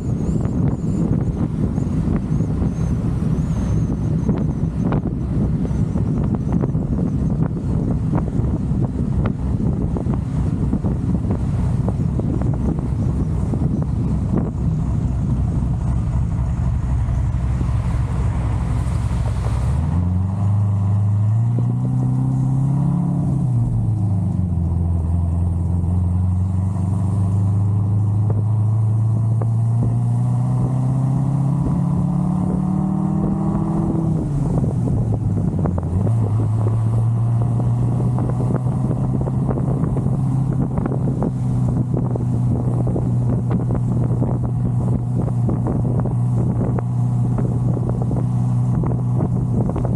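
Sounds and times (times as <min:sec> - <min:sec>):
car engine accelerating through gears: 0:00.0 - 0:49.9.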